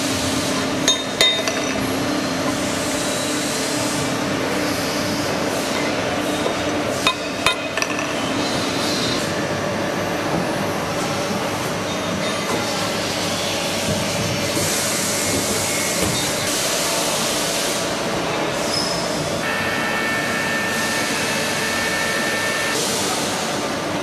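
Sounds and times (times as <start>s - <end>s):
factory machinery noise: 0.0s - 24.0s.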